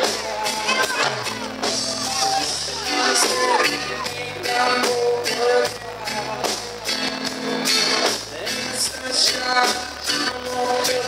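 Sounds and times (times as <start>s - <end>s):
drum beats: 0.0s - 11.0s
live reggae band: 0.0s - 11.0s.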